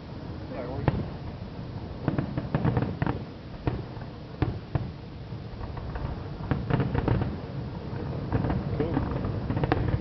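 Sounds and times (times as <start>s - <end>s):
steady low rumble: 0.0s - 10.0s
distant fireworks bangs and crackles: 0.2s - 10.0s.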